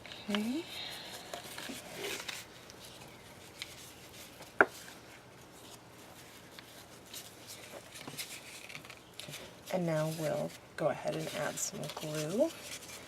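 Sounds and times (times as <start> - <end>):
handling craft materials: 0.0 - 13.0.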